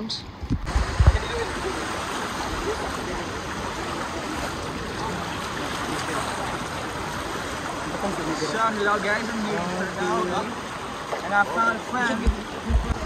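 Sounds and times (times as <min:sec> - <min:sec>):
seawater splashing in rock pool: 0:00.7 - 0:13.0
faint crowd voices: 0:01.0 - 0:13.0.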